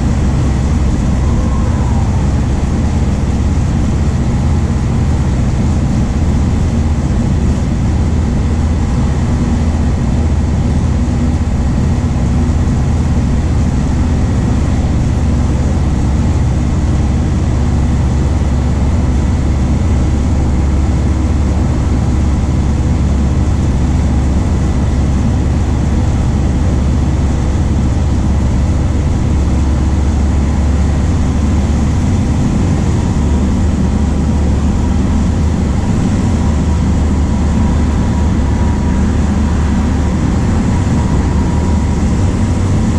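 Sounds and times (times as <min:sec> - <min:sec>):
diesel bus engine running: 0:00.0 - 0:42.9.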